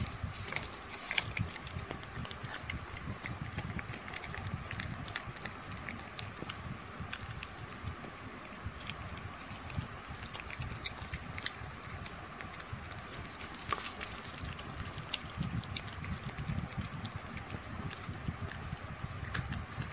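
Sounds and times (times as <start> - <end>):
kittens licking and lapping: 0.0 - 19.9
low background rumble: 0.0 - 19.9.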